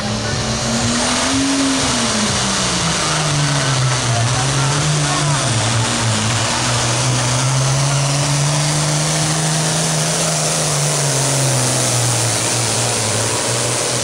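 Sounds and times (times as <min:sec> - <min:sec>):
tractor engine roaring under load: 0:00.0 - 0:14.0.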